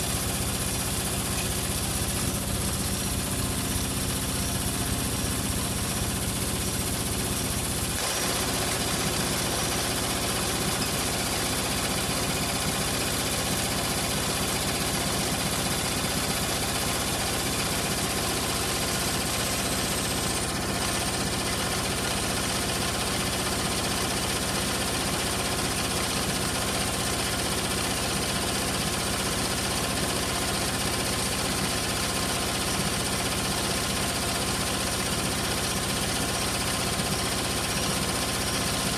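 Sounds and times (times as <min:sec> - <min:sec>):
washing machine drum spinning: 0:00.0 - 0:38.9.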